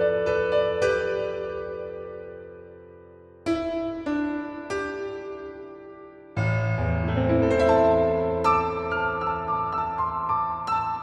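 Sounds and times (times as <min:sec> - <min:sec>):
grand piano chords and notes: 0:00.0 - 0:11.0.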